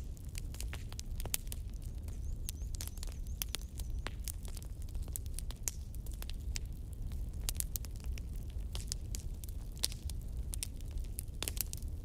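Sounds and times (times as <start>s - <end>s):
bonfire crackling and popping: 0.0s - 12.0s
low fire rumble: 0.0s - 12.0s.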